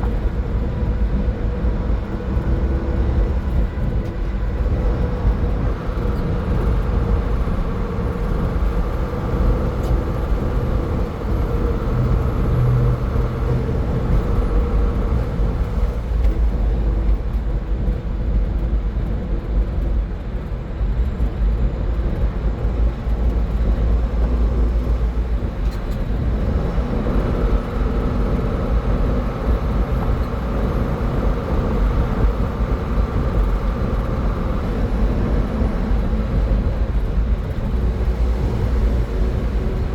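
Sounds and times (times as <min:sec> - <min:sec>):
faint engine hum: 0:00.0 - 0:39.9
tyre and road noise: 0:00.0 - 0:39.9.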